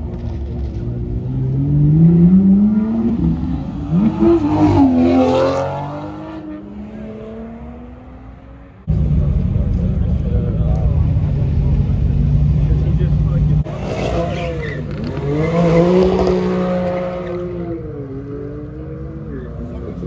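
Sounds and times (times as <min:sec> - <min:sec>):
sports car accelerating: 0:00.0 - 0:20.0.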